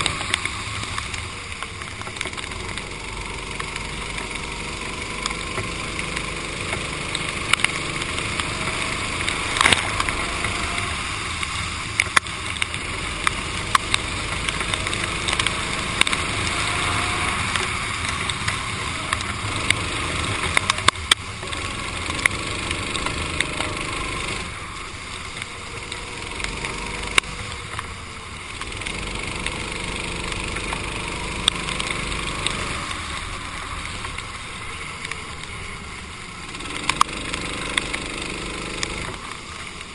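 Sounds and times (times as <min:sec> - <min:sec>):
sharp clicks: 0:00.0 - 0:24.5, 0:28.6 - 0:34.2, 0:36.4 - 0:39.9
hiss of road noise: 0:00.0 - 0:39.9
racing kart engine: 0:00.0 - 0:39.9.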